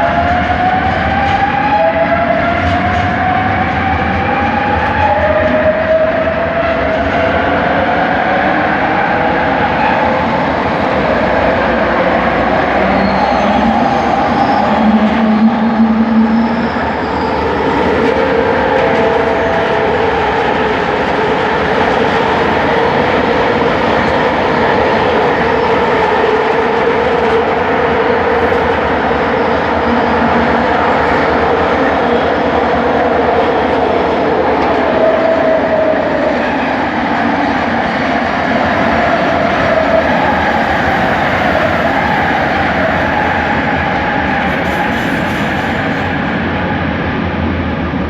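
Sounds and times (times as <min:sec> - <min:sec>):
train wheels rumbling on track: 0:00.0 - 0:48.0.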